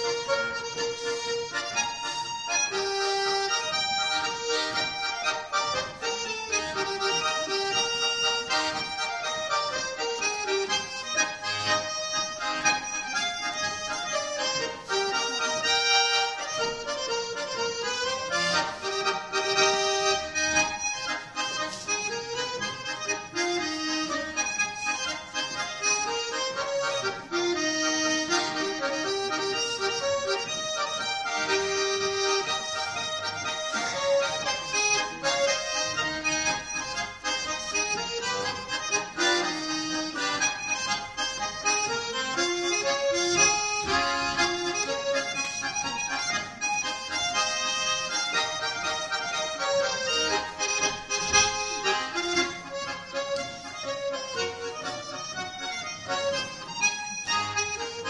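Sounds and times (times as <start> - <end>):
button accordion playing folk dance tune: 0.0 - 58.0.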